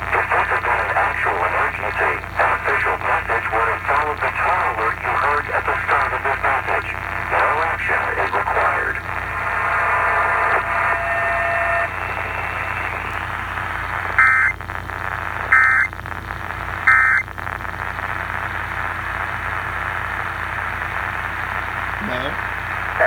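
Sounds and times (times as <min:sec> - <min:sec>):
radio hiss and static: 0:00.0 - 0:23.0
steady whine: 0:00.0 - 0:23.0.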